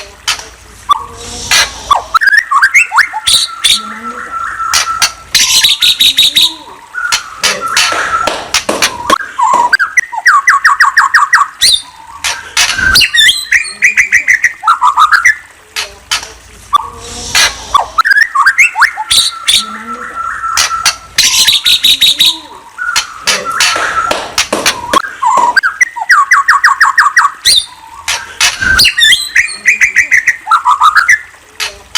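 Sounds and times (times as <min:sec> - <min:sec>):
songbird singing: 0:00.9 - 0:15.6, 0:16.7 - 0:31.4.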